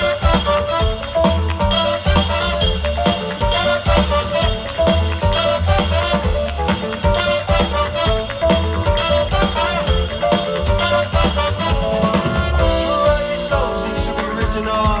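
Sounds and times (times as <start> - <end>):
live band music: 0.0 - 15.0
snare rimshots and bass drum: 0.0 - 15.0.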